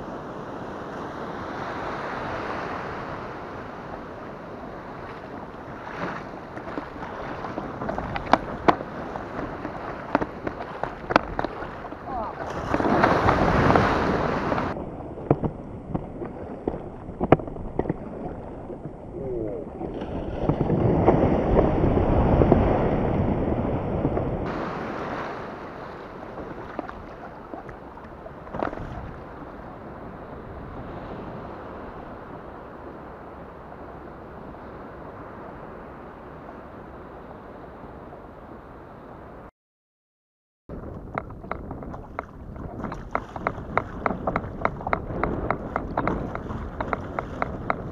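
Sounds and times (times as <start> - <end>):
surf rushing and splashing: 0.0 - 37.0, 40.7 - 47.9.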